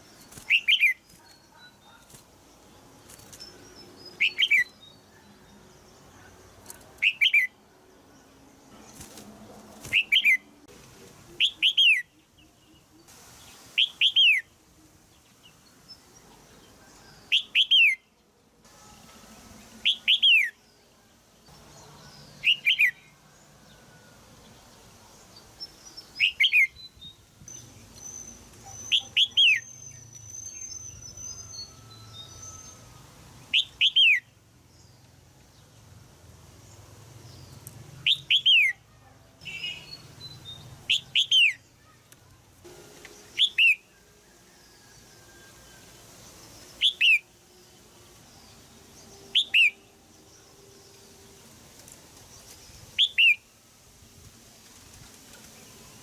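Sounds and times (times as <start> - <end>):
bird chirping: 0.0 - 10.7, 11.3 - 36.0, 36.6 - 53.7.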